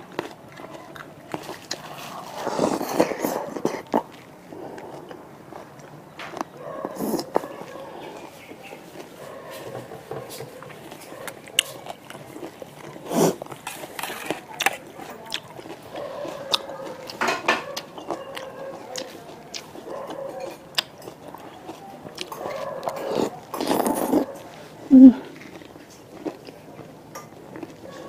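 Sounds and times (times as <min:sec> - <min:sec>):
close chewing and mouth sounds: 0:00.0 - 0:28.0.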